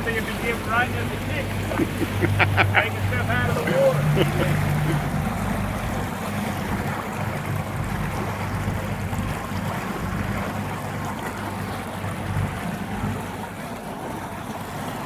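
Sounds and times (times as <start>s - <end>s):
motorboat engine humming: 0.0s - 15.0s
water noise: 0.0s - 15.0s
wind: 0.0s - 15.0s.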